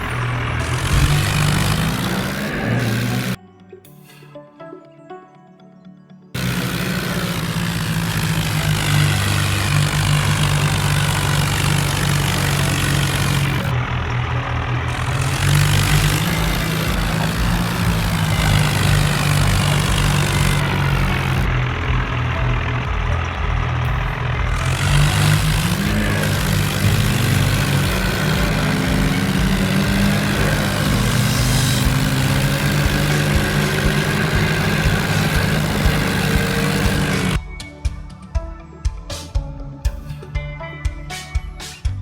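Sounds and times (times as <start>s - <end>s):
tractor engines running hard: 0.0s - 3.4s, 6.4s - 37.4s.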